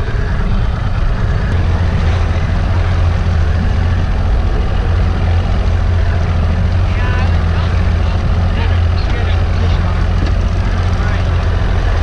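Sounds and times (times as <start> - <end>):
boat engine humming: 0.0 - 12.0
continuous rushing hiss: 0.0 - 12.0.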